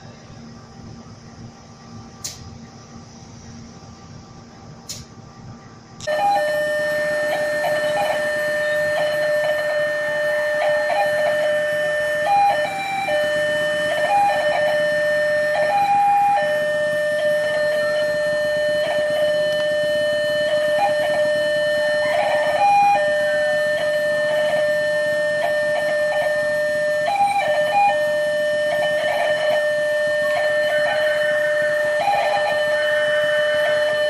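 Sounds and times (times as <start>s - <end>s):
level crossing warning alarm: 0.0s - 34.0s.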